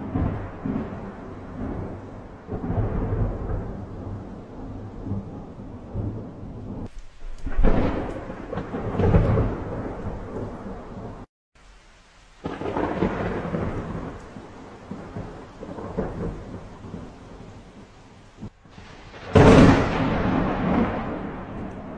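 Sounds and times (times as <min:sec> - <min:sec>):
thunder rumbling: 0:00.0 - 0:11.3, 0:12.4 - 0:21.9
steady rain: 0:00.0 - 0:21.9.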